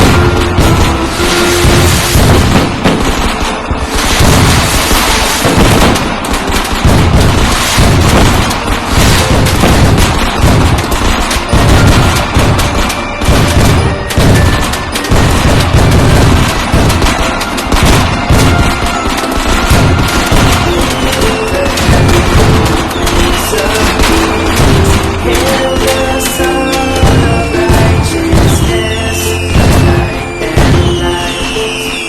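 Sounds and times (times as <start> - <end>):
deep firework booms: 0.0 - 32.0
firecrackers cracking rapidly: 0.0 - 32.0.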